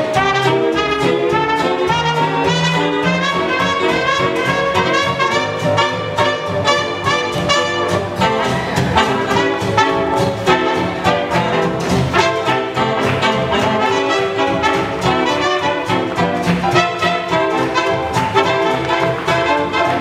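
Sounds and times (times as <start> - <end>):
swing jazz with brass: 0.0 - 20.0.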